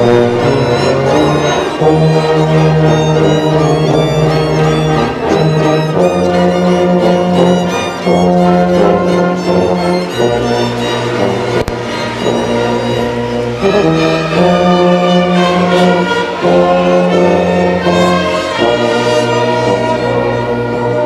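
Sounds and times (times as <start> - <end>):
string orchestra playing: 0.0 - 21.0.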